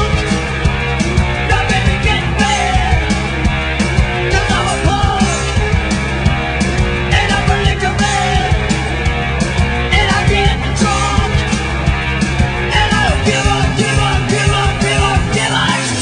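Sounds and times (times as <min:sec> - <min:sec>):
rock music with drums: 0:00.0 - 0:16.0.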